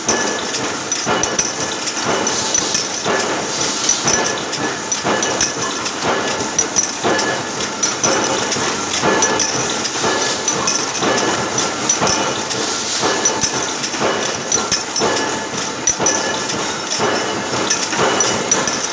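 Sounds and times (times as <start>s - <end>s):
metallic clanking: 0.0s - 18.9s.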